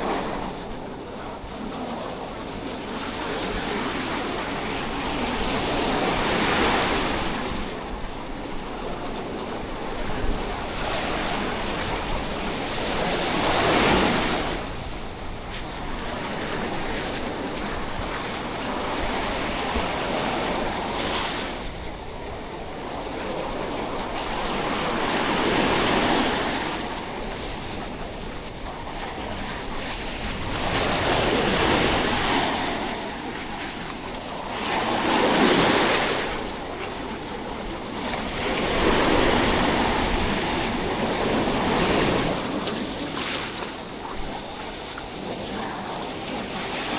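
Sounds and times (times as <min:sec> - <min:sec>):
sea waves breaking on beach: 0:00.0 - 0:46.9
wind on microphone: 0:00.0 - 0:46.9.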